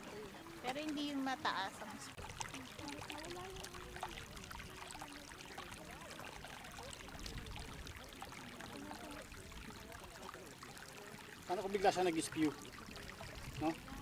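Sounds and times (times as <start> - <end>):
faint distant voices: 0.0 - 14.0
stream water trickling: 0.0 - 14.0.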